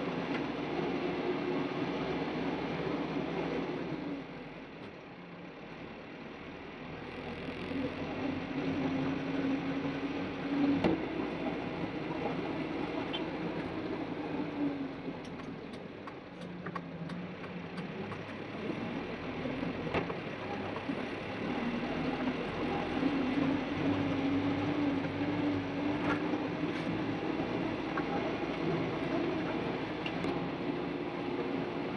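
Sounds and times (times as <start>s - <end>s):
truck engine running: 5.5s - 31.9s.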